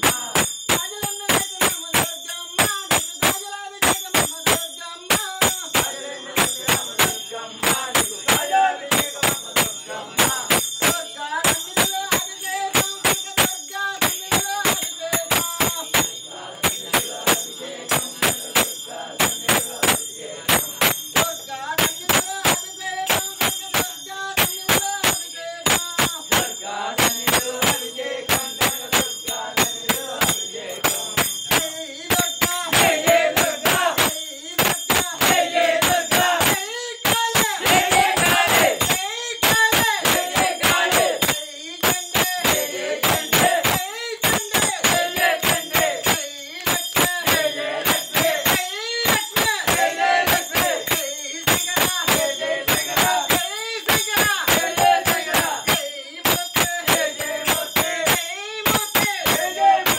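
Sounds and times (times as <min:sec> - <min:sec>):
group devotional singing: 0:00.0 - 0:00.8, 0:04.1 - 0:59.9
bell ringing: 0:00.0 - 0:59.9
rhythmic hand clapping: 0:00.0 - 0:59.9.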